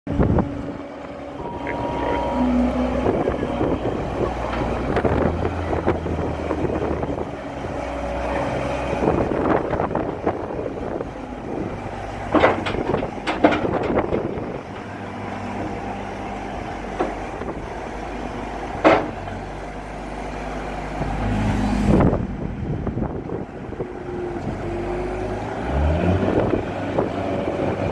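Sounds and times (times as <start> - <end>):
diesel engine running: 0.1 - 27.9.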